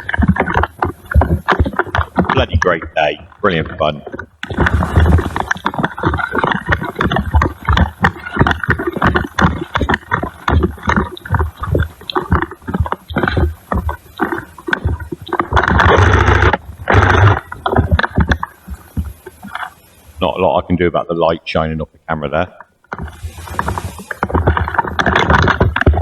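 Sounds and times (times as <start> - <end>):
loud rustling: 0.0 - 20.4, 22.9 - 26.0.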